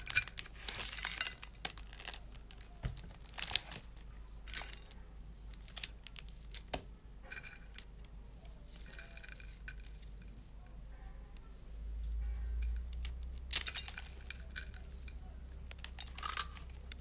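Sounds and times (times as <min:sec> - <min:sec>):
dry noodles crackling: 0:00.0 - 0:17.0
soft rustling: 0:00.0 - 0:17.0.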